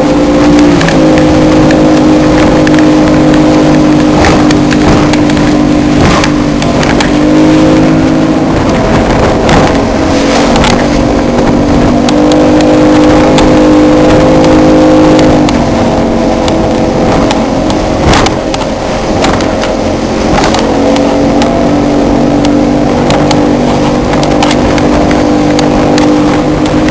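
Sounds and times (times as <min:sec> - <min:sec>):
outboard motor running: 0:00.0 - 0:26.9
rushing water and wind: 0:00.0 - 0:26.9
spray and waves slapping hull: 0:00.0 - 0:26.9.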